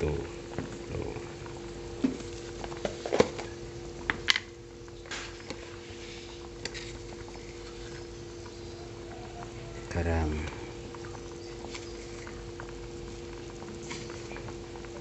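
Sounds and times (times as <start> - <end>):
broth bubbling in a wok: 0.0 - 15.0
steady low hum: 0.0 - 15.0.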